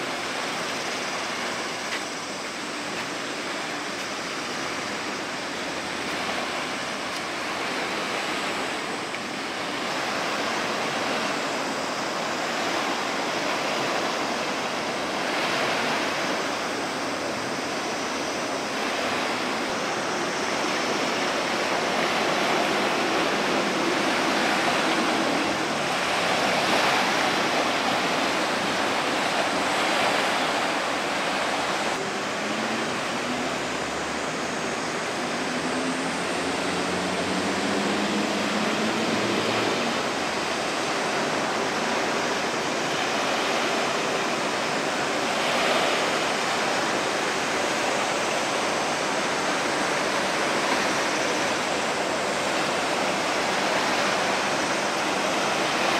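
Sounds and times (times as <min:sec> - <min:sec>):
rushing water and breaking waves: 0:00.0 - 0:55.9.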